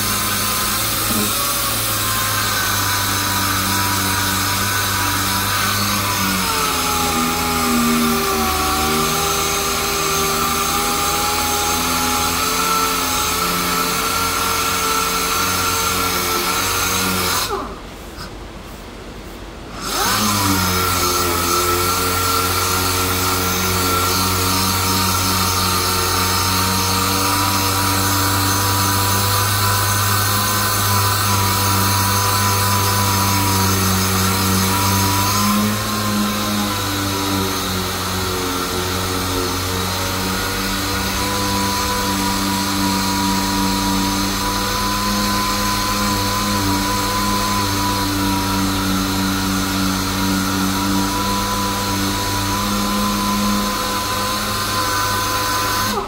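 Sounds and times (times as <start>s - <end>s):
power sander whining: 0.0s - 18.3s, 19.8s - 56.0s.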